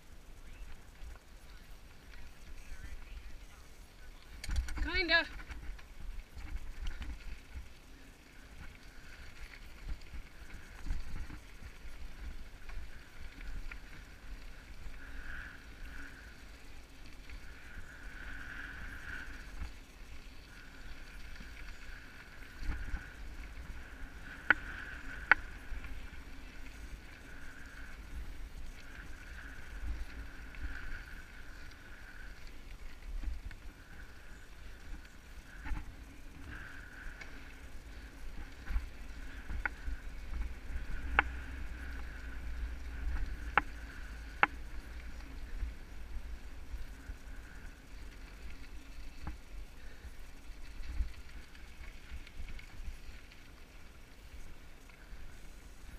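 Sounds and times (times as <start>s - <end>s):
bike tyres rumbling on rocky trail: 0.0s - 55.9s.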